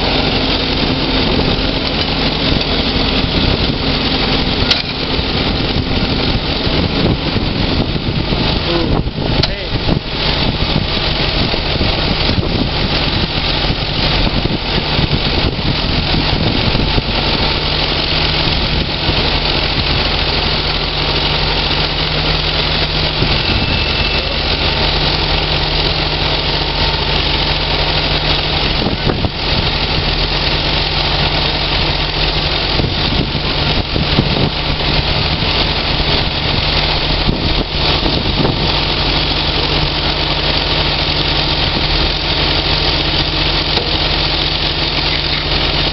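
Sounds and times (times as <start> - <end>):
excavator working: 0.0 - 45.9
tractor diesel engine running: 0.0 - 45.9.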